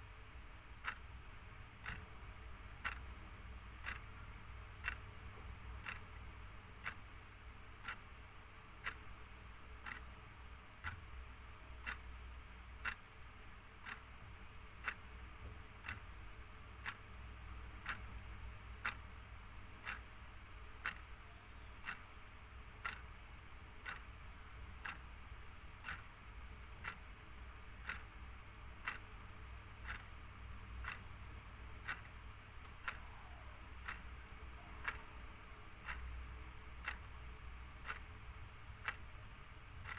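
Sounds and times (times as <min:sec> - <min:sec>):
faint low hum: 0:00.0 - 0:39.9
clock ticking: 0:00.7 - 0:39.9.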